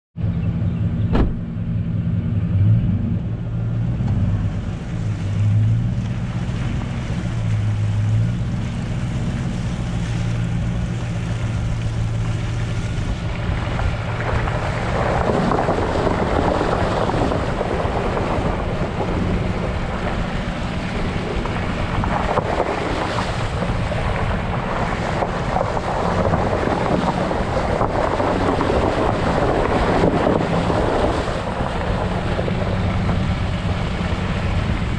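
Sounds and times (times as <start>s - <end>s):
wind noise on microphone: 0.2s - 1.7s, 2.8s - 34.9s
truck engine humming: 0.2s - 34.9s
tyres splashing through water: 3.4s - 34.9s.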